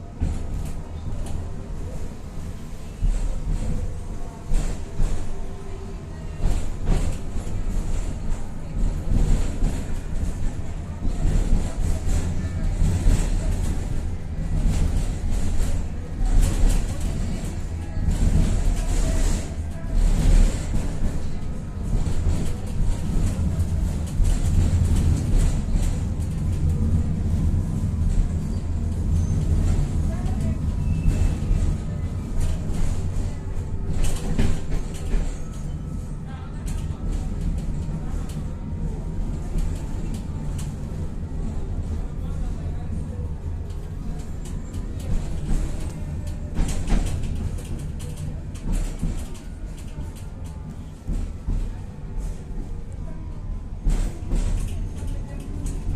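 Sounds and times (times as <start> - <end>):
rattles and clicks of tram: 0.0 - 55.9
tram rumbling on track: 0.0 - 55.9.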